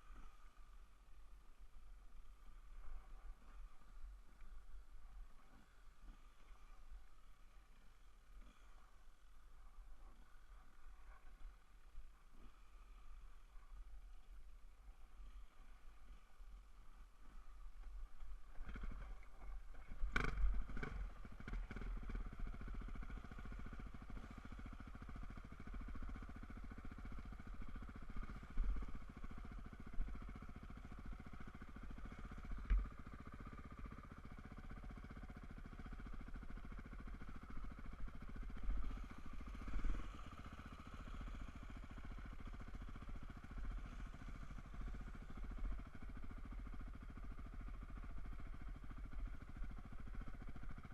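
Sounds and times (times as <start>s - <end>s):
dirt bike engine running: 1.8s - 13.3s, 17.2s - 50.9s.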